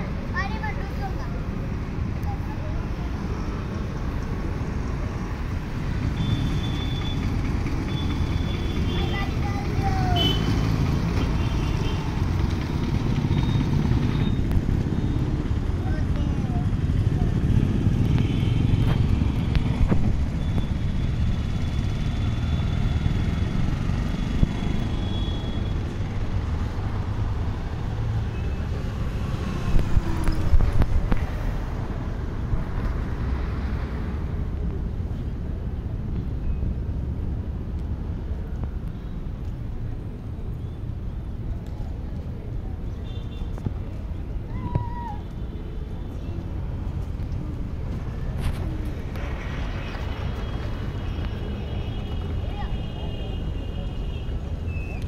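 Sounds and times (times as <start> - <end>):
low rumble of road traffic: 0.0 - 55.0.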